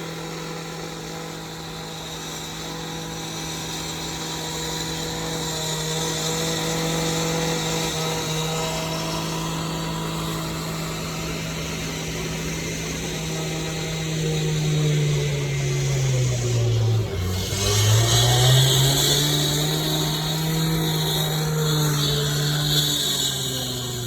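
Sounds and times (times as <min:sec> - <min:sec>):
construction machine engine droning: 0:00.0 - 0:24.0.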